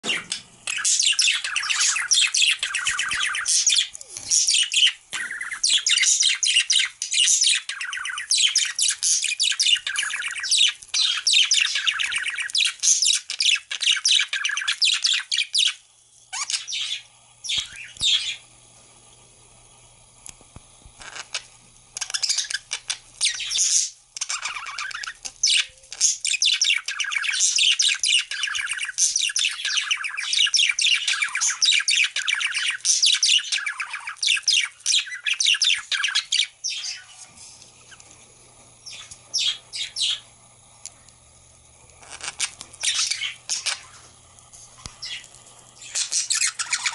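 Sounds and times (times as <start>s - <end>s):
budgerigars warbling and chirping: 0.0s - 18.4s, 21.0s - 21.4s, 22.0s - 37.3s, 38.8s - 40.2s, 42.0s - 44.1s, 45.0s - 46.9s.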